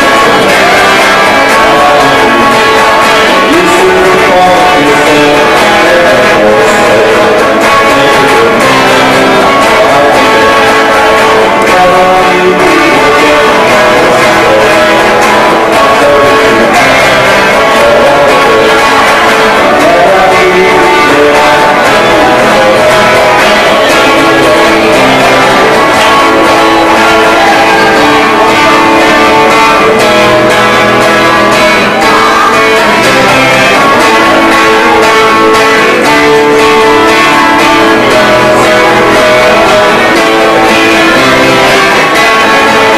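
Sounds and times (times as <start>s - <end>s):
live band playing with guitar: 0.0s - 42.9s.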